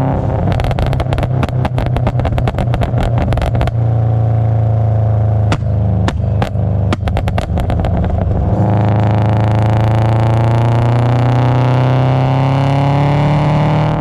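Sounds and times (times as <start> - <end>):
car engine revving: 0.0 - 14.0
exhaust crackles: 0.0 - 14.0.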